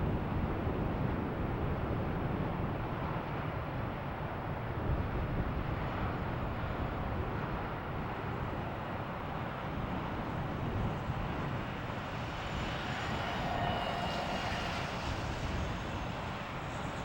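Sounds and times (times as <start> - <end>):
jet airliner passing: 0.2 - 17.0.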